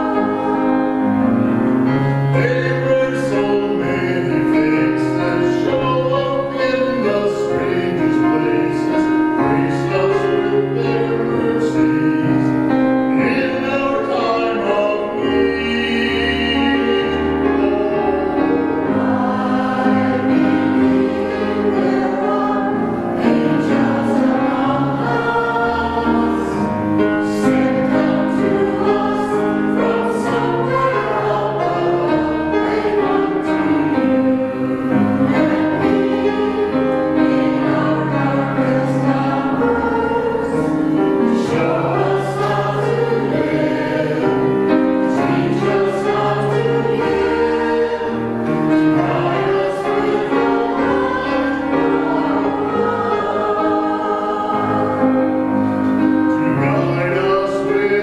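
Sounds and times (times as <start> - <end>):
group singing church music: 0.0 - 58.0
instrumental accompaniment: 0.0 - 58.0.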